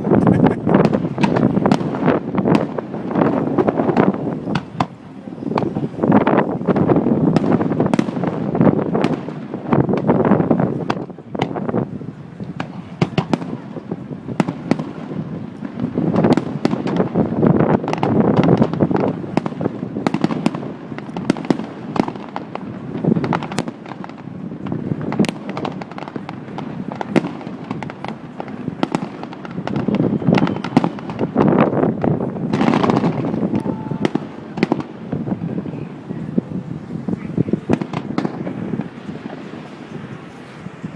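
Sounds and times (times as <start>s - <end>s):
fireworks bangs and crackling: 0.0s - 40.9s
fireworks rumbling booms: 0.0s - 40.9s.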